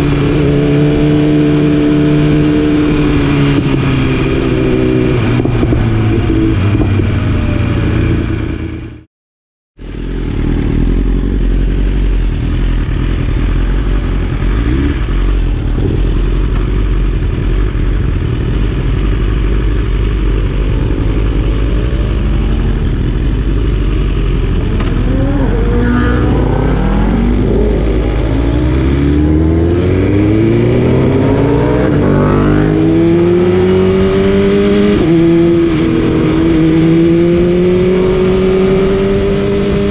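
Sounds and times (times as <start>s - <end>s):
motorcycle engine revving through gears: 0.0s - 9.0s, 9.8s - 39.9s
wind and road noise: 0.0s - 9.1s, 9.8s - 39.9s.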